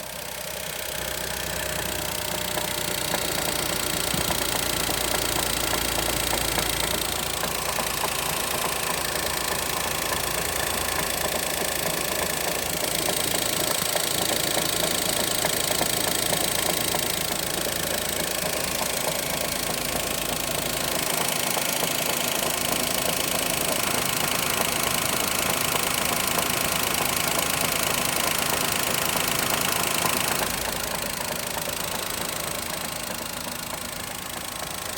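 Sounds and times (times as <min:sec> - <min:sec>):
car engine running: 0:00.0 - 0:34.9
engine knocking: 0:00.0 - 0:34.9.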